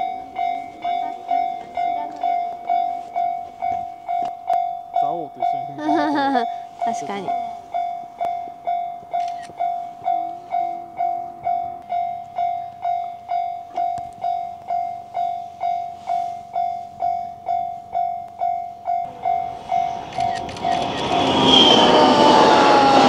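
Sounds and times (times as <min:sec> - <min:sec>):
level crossing warning bell: 0:00.0 - 0:23.0
train rumble: 0:00.0 - 0:23.0.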